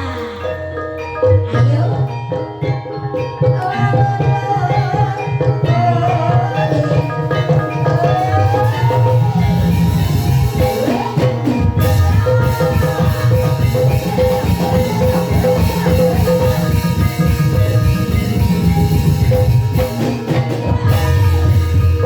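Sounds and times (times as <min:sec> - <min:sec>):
drums beating: 0:00.0 - 0:22.0
gamelan music: 0:00.0 - 0:22.0.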